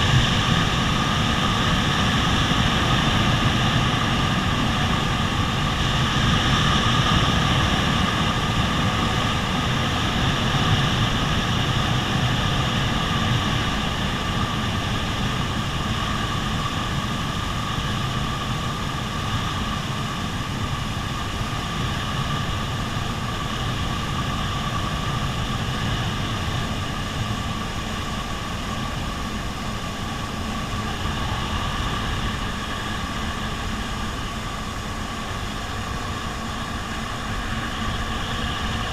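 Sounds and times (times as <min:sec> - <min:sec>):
jet ski engine drone: 0:00.0 - 0:38.9
rush of wind and water: 0:00.0 - 0:38.9.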